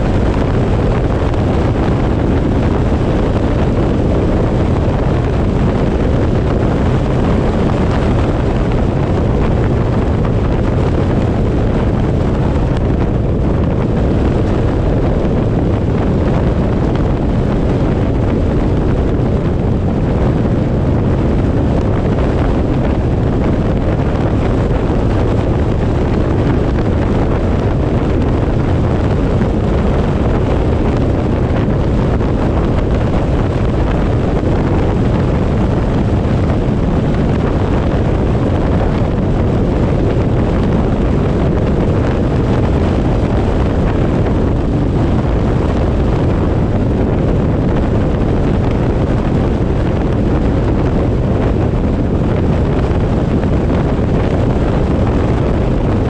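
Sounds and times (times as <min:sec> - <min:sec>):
road noise: 0:00.0 - 0:56.0
wind rushing over microphone: 0:00.0 - 0:56.0.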